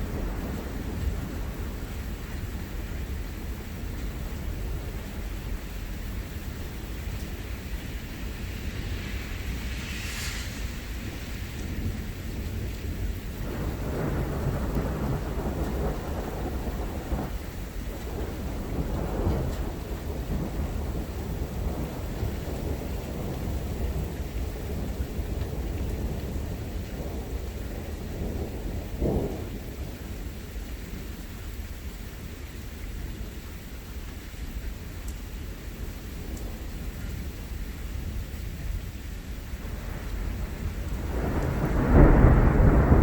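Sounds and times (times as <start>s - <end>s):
rolling thunder: 0.0s - 5.7s, 7.0s - 31.1s, 35.8s - 43.0s
steady rain: 0.0s - 43.0s.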